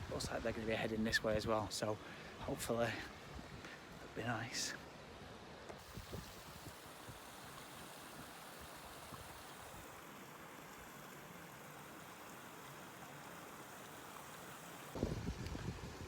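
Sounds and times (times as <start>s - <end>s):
faint river rush: 0.0s - 16.0s.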